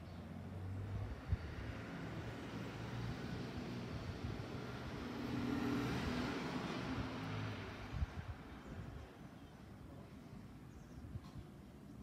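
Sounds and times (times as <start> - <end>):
rushing vehicle noise: 0.0 - 10.6.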